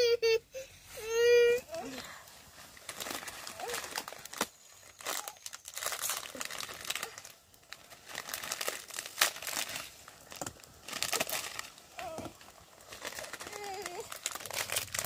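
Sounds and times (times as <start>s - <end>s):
plastic packet crinkling: 2.0s - 15.0s.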